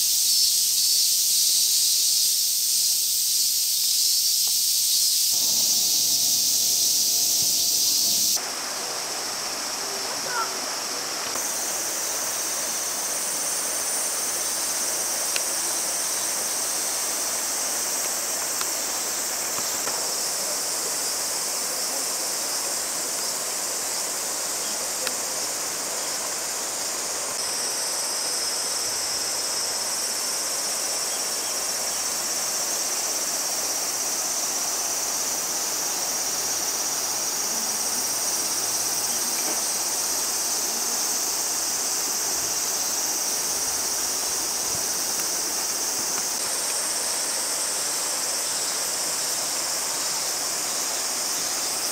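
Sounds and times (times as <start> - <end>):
high-pitched insect chorus: 0.0 - 51.9
stream rushing: 4.6 - 51.9.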